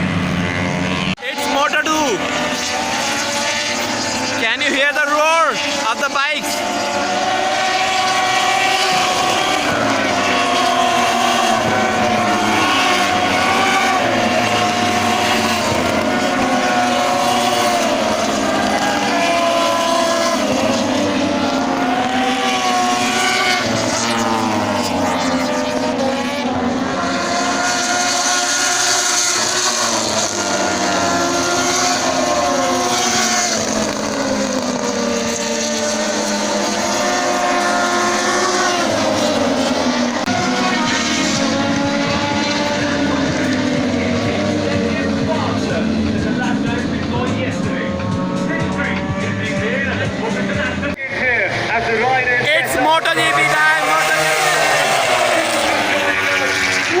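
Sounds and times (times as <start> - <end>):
racing motorcycles passing: 0.0 - 57.0.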